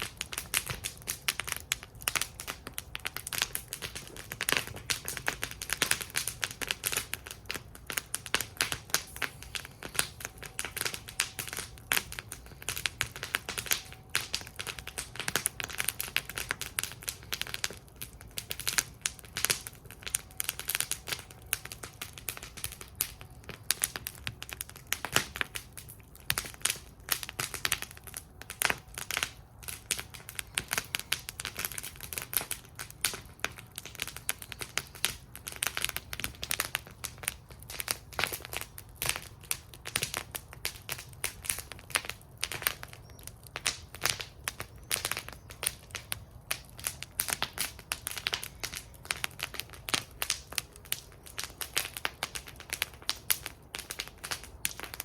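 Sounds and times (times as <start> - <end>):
low rumble of fire: 0.0 - 55.0
wood fire crackling and popping: 0.0 - 55.0.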